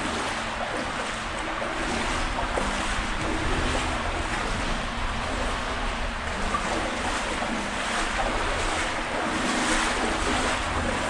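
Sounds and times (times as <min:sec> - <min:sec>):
river water rushing in a culvert: 0:00.0 - 0:11.0.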